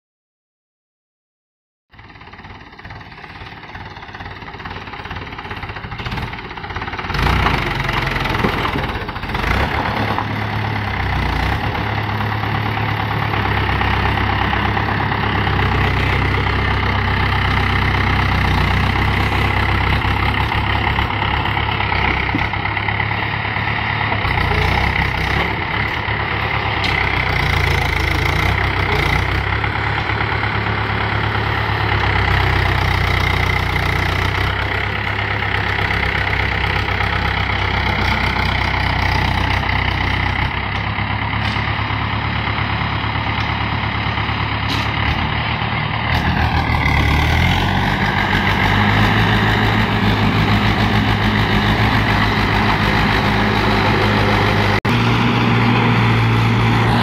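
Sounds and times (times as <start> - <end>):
diesel engines throbbing: 1.9 - 57.0.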